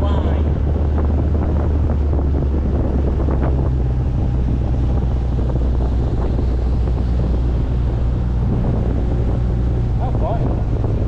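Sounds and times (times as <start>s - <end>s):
motorboat engine drone: 0.0s - 11.0s
wind buffeting microphone: 0.0s - 11.0s.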